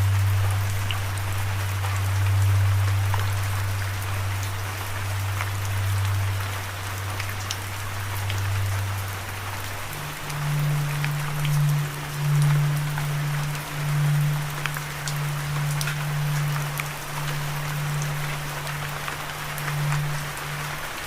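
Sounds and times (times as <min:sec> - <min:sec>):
low held tone: 0:00.0 - 0:20.7
steady rain falling: 0:00.0 - 0:21.0.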